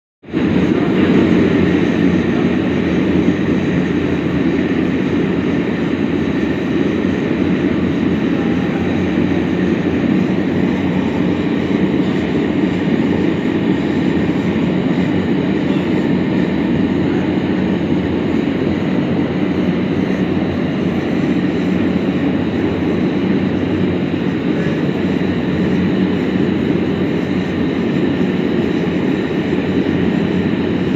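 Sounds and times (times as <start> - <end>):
forge burner rushing: 0.3 - 30.9.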